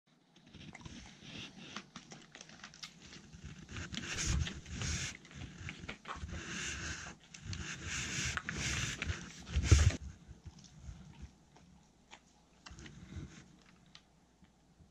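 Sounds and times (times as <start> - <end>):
dog licking and chewing: 0.4 - 14.1
small clicks and scuffs: 0.4 - 14.1
dog panting and sniffing: 0.5 - 13.6.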